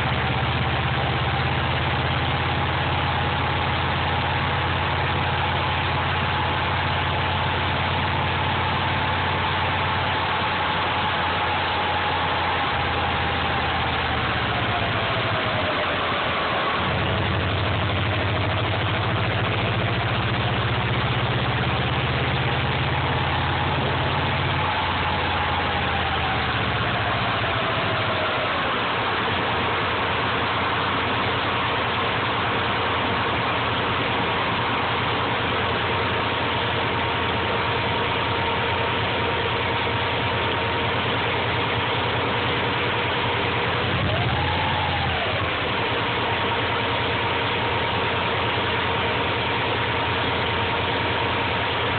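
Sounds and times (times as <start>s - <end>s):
car engine idling: 0.0s - 51.9s
faint whine: 0.0s - 51.9s
rush of noise: 6.4s - 39.0s, 40.9s - 51.9s.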